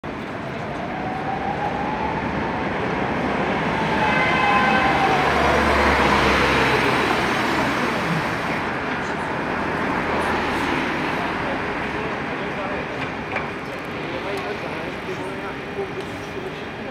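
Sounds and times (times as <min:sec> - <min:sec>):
street noise: 0:00.0 - 0:16.9
tram wheels rumbling on rails: 0:00.0 - 0:16.9.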